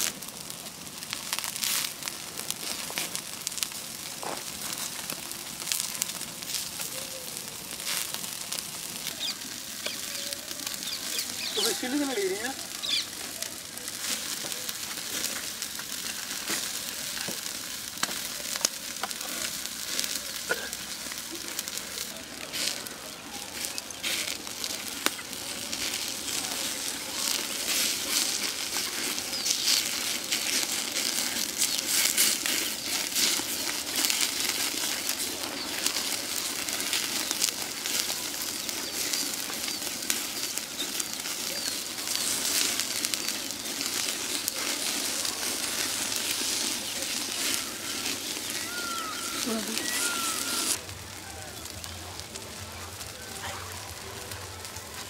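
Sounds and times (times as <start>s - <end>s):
fat sizzling: 0.0s - 55.0s
wood fire crackling: 0.0s - 55.0s.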